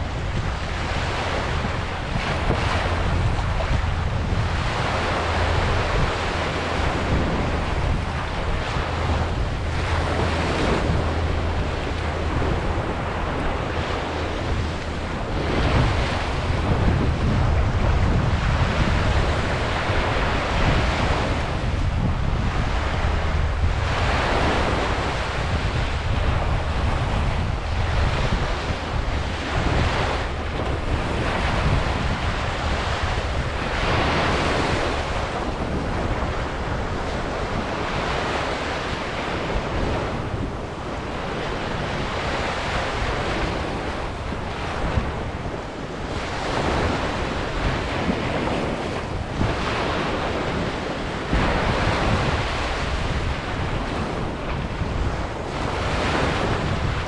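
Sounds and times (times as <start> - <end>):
ocean waves breaking on beach: 0.0 - 57.0
wind rumble on microphone: 0.0 - 57.0.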